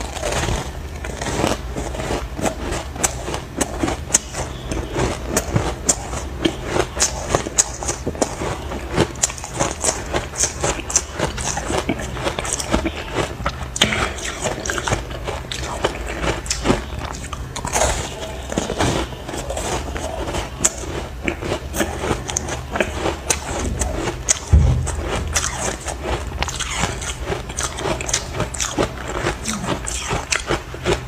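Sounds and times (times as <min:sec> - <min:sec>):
ice crunching while chewed: 0:00.0 - 0:31.0.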